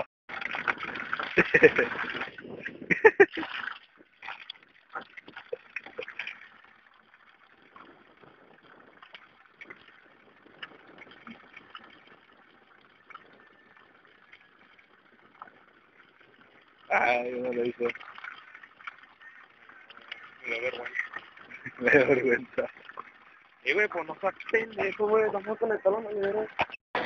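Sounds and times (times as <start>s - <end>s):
water pouring into plastic bucket: 0.3s - 26.7s.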